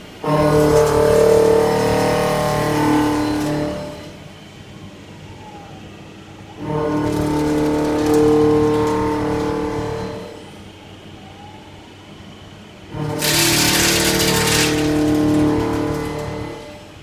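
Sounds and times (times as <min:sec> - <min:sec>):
machine motors whining: 0:00.0 - 0:17.0.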